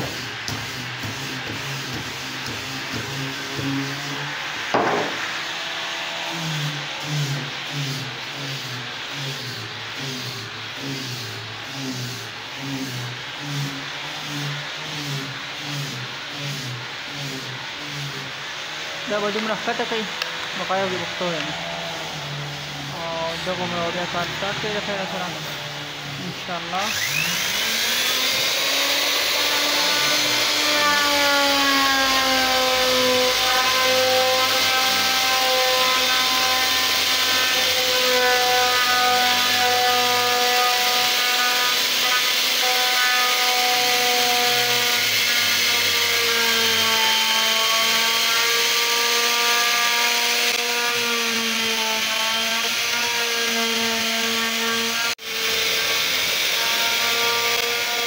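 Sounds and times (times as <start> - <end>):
router cutting wood: 0.0 - 58.0.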